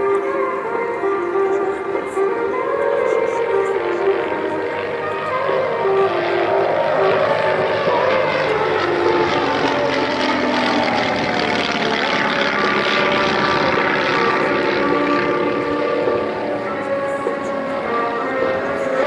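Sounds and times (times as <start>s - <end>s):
display music: 0.0s - 19.0s
propeller plane engines: 0.0s - 19.0s.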